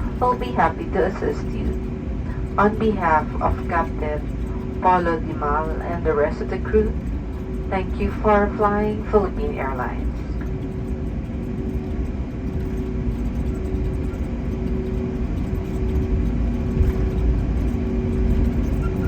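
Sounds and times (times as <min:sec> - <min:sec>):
constant two-tone hum: 0:00.0 - 0:19.0
low cabin rumble: 0:00.0 - 0:19.0.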